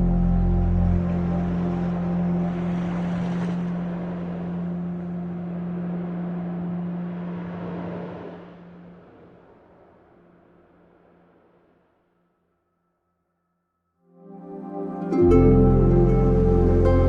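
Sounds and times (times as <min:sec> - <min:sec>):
ambient music drone: 0:00.0 - 0:11.4, 0:14.1 - 0:17.0.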